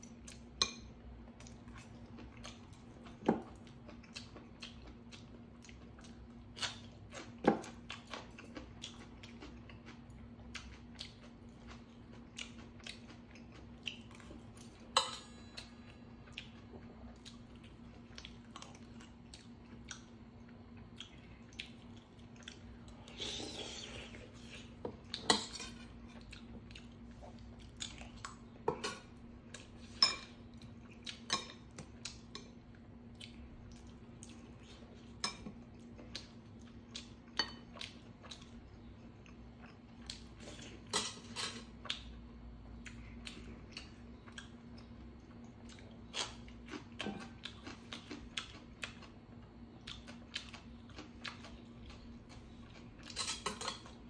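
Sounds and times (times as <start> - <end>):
steady low hum: 0.0 - 54.0
chewing: 1.4 - 42.1, 42.7 - 54.0.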